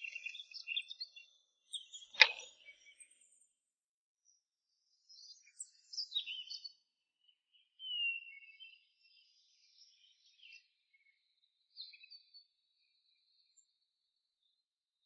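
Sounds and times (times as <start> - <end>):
faint birdsong chirps: 0.0 - 15.0.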